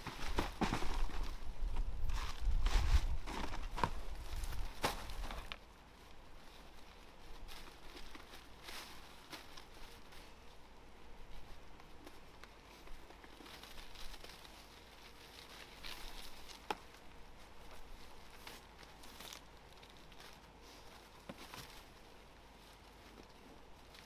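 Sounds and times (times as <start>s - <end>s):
dry leaves rustling and crinkling: 0.0s - 24.0s.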